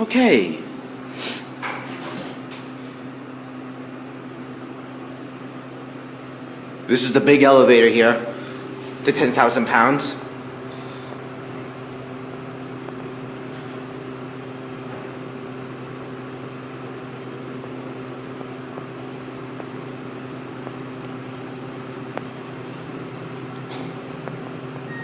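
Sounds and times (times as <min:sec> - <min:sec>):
elevator electric hum: 0:00.0 - 0:25.0.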